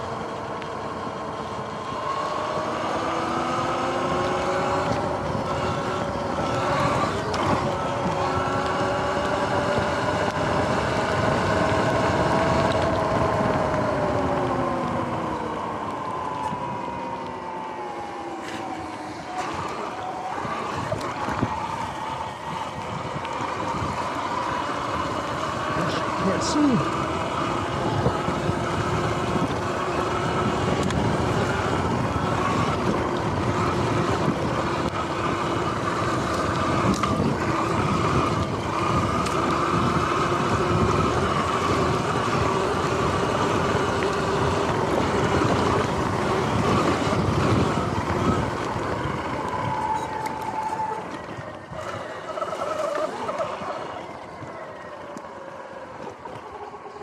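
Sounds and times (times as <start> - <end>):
wind noise on microphone: 0.0 - 18.8, 19.4 - 54.6
electric motor whining: 0.0 - 55.3.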